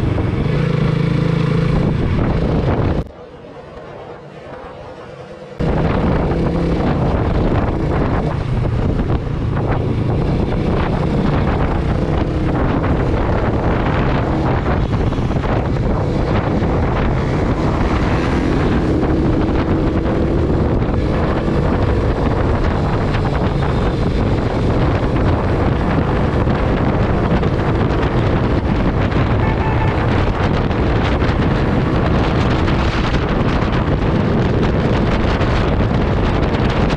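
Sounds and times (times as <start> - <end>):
motorcycle engine at speed: 0.0 - 3.1, 5.5 - 36.9
wind noise on microphone: 0.0 - 36.9.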